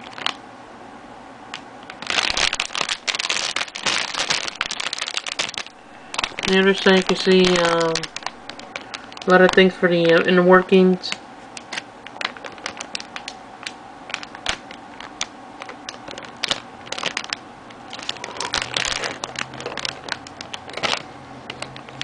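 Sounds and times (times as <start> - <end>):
plastic clicks and crinkling: 0.0 - 0.4, 1.5 - 10.3, 11.1 - 22.0.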